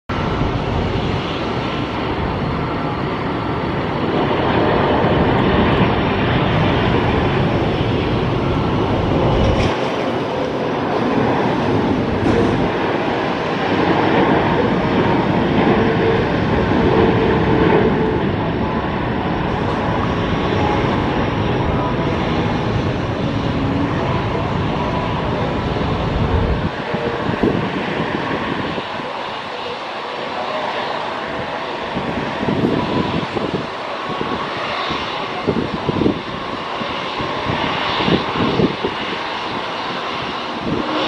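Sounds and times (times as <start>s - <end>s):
jet airliner engines roaring: 0.1s - 41.0s.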